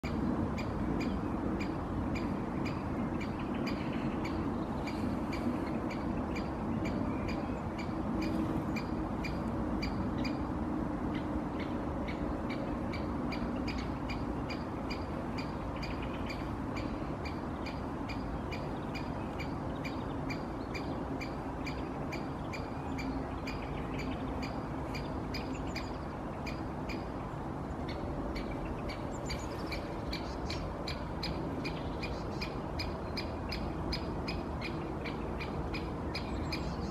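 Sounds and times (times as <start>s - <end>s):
woodpecker sharp calls: 0.1s - 10.4s, 11.1s - 27.1s, 27.9s - 36.9s.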